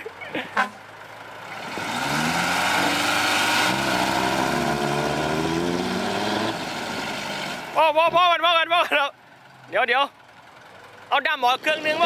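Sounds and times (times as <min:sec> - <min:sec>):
diesel engine revving under load: 0:00.0 - 0:08.5, 0:09.4 - 0:12.0.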